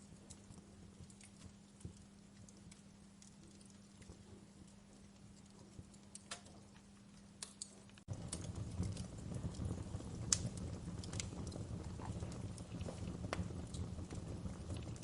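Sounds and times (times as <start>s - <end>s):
faint steady hum: 0.0s - 15.0s
low rumble of flames: 0.0s - 15.0s
wood fire crackling and popping: 0.0s - 15.0s.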